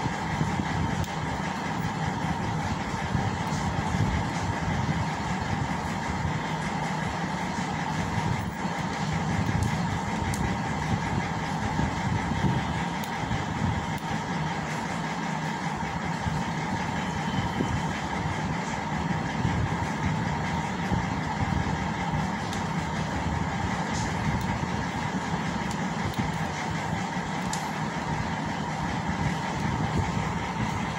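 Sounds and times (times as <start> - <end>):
mechanical drone: 0.0 - 30.9.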